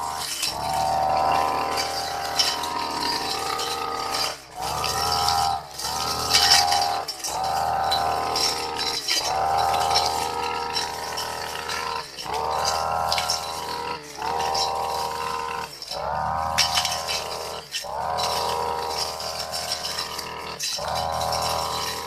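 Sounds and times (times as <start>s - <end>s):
blade cutting long grass: 0.0s - 22.0s
brush cutter engine revving: 0.0s - 22.0s.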